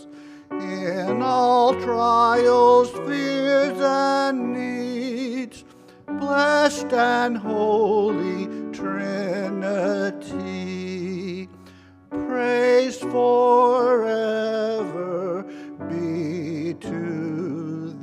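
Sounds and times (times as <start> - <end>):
man singing a hymn: 0.0 - 18.0
piano accompaniment: 0.0 - 18.0.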